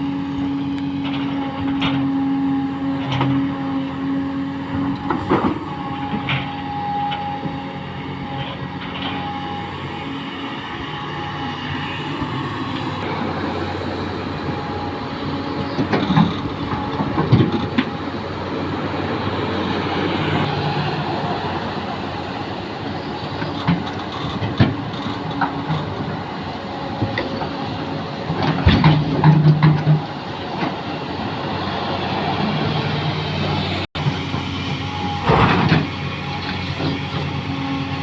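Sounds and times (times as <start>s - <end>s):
excavator engine running: 0.0s - 38.0s.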